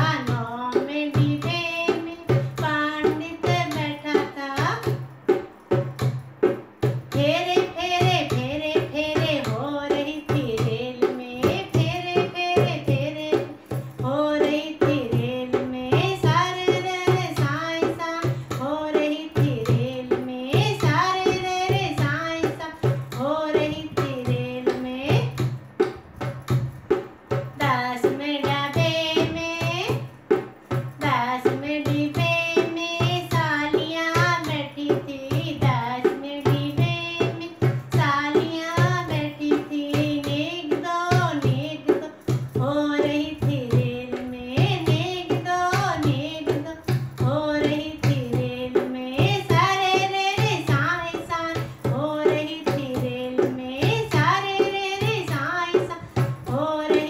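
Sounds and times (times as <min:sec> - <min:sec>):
woman singing folk song: 0:00.0 - 0:05.0, 0:06.9 - 0:25.6, 0:27.3 - 0:30.1, 0:30.7 - 0:57.0
hand drum rhythm: 0:00.0 - 0:57.0.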